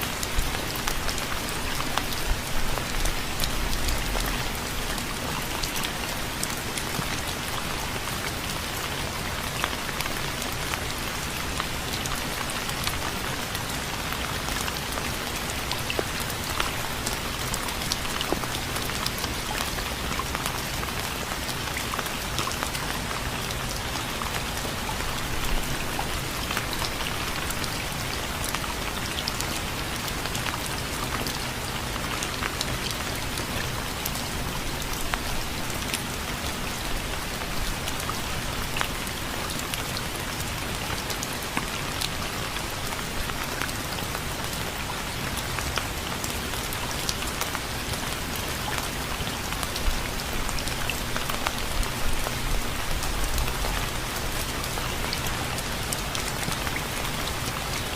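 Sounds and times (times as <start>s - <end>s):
rain hiss: 0.0s - 57.9s.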